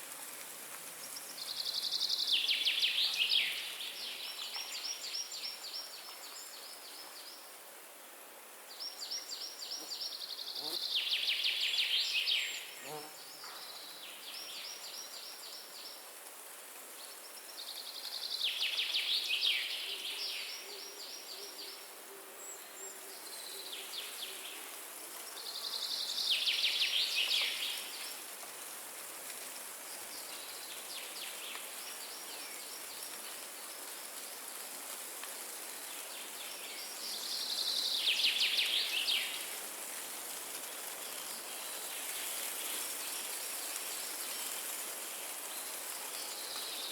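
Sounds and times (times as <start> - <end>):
wind through trees: 0.0 - 46.9.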